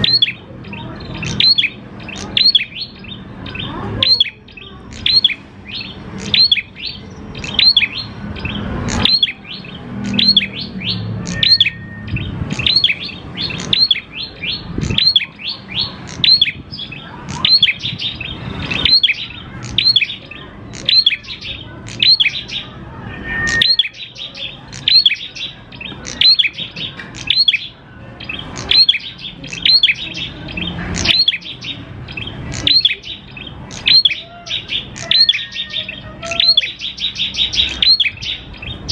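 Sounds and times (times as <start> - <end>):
bird calling with sharp chirps: 0.0 - 38.9.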